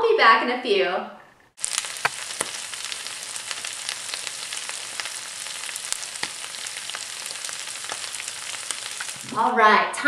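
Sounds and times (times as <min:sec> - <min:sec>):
seafood and vegetables sizzling in oil: 0:01.5 - 0:09.7.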